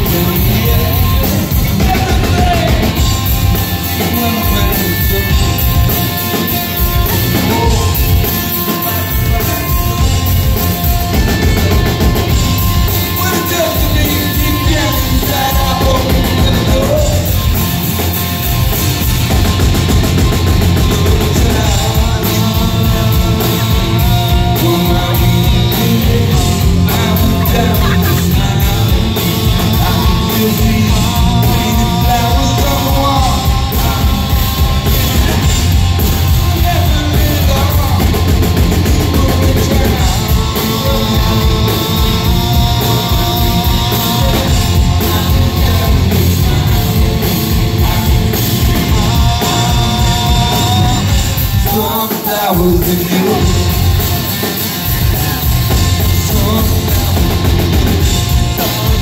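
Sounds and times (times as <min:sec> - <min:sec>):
bass guitar: 0:00.0 - 0:59.0
distorted electric guitars: 0:00.0 - 0:59.0
drum kit beat: 0:00.0 - 0:59.0
lead vocal singing: 0:00.0 - 0:59.0.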